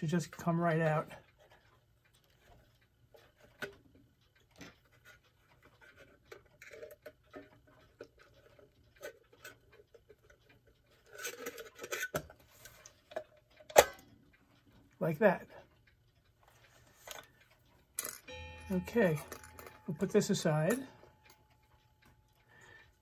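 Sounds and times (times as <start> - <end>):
clock parts clicking and scraping: 0.0 - 23.0.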